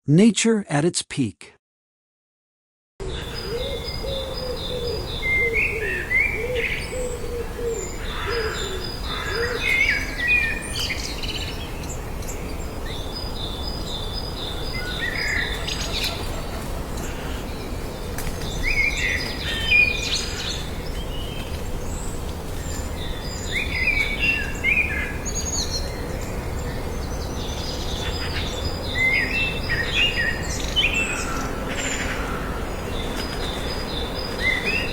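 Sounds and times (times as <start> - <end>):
songbirds singing and chirping: 3.0 - 34.9.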